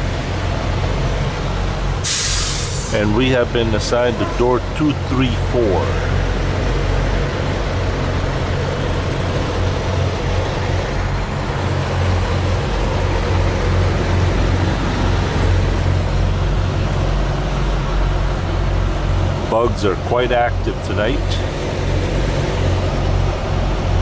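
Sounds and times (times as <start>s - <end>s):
constant road noise rush: 0.0s - 24.0s
truck diesel engine running: 0.0s - 24.0s.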